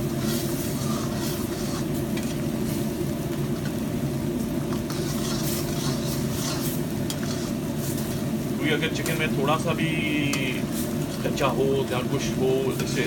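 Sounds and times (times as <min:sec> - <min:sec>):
spoon stirring against pan: 0:00.0 - 0:03.8, 0:04.6 - 0:11.5
gravy bubbling and sizzling: 0:00.0 - 0:13.0
steady low hum: 0:00.0 - 0:13.0.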